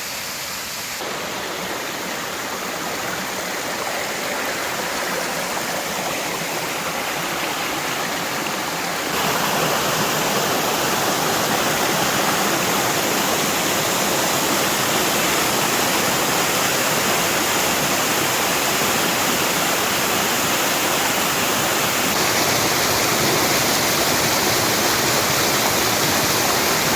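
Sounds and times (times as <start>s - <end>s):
waterfall pouring: 1.0s - 20.6s, 21.2s - 26.9s.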